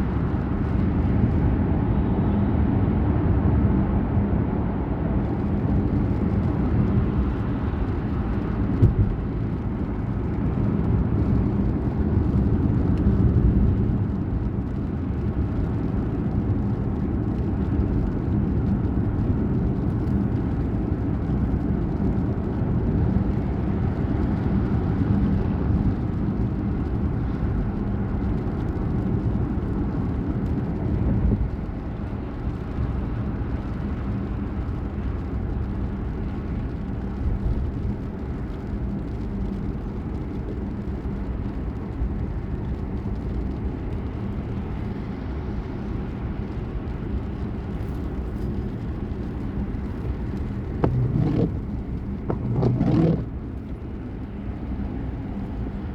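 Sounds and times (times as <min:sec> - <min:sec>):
moving vehicle rumble: 0:00.0 - 0:55.9.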